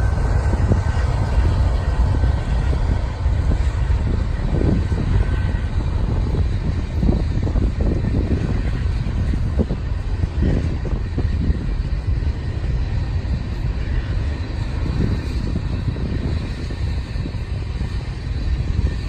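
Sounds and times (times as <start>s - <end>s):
diesel locomotives rumbling past: 0.0s - 19.0s.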